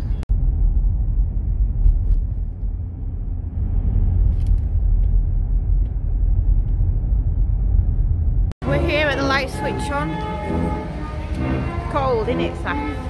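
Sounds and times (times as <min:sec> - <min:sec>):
road and engine noise inside car: 0:00.0 - 0:13.0.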